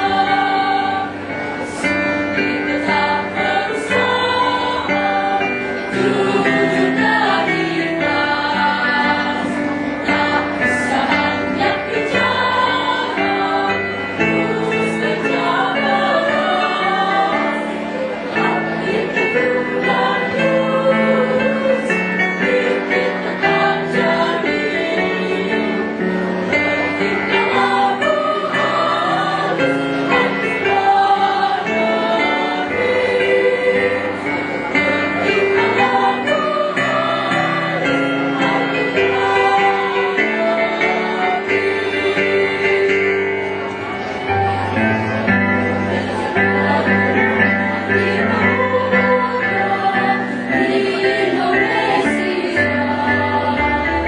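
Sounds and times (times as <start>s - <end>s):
choir singing in parts: 0.0s - 54.0s.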